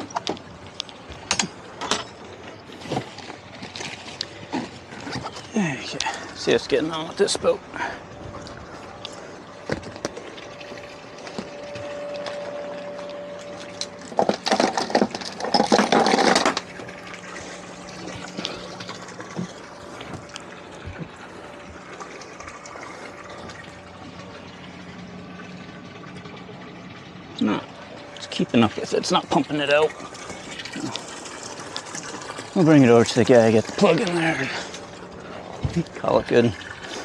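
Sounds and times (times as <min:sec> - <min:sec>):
pump running: 0:00.0 - 0:37.0
water gushing and splashing: 0:00.0 - 0:37.0.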